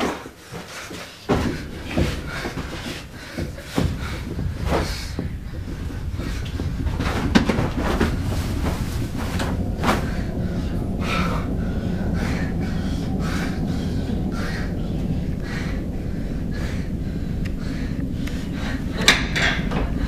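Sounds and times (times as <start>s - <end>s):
things rustling in wardrobe: 0.0s - 17.0s
low background rumble: 0.2s - 20.0s.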